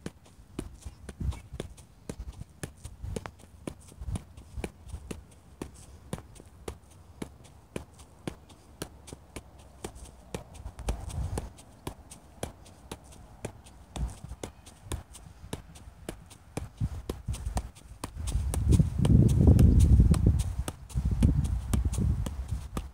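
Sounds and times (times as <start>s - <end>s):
soccer ball touches off foot: 0.0s - 22.9s.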